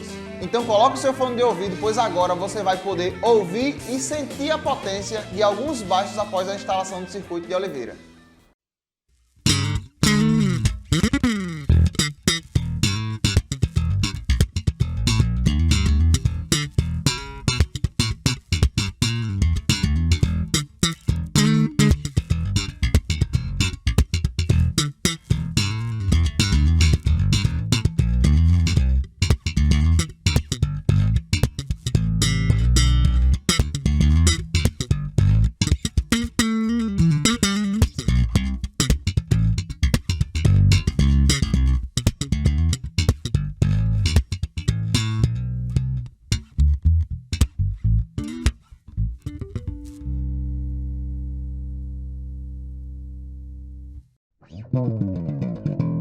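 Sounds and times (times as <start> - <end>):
electric bass plucked notes: 0.0 - 5.5, 9.4 - 56.0.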